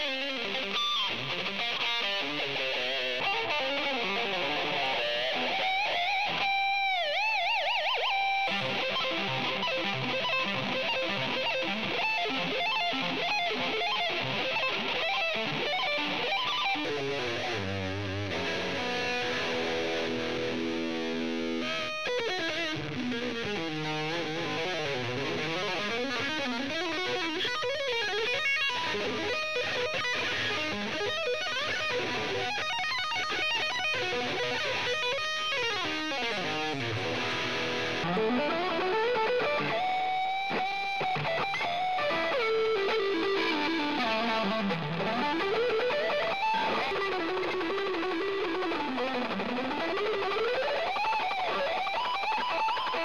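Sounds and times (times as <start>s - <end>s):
electric guitar shred runs: 0.0s - 53.0s.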